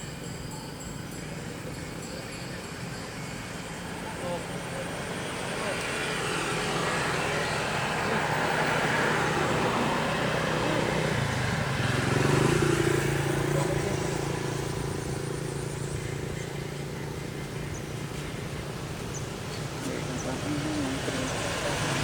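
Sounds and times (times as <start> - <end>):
vehicle engine passing by: 1.9 - 22.0.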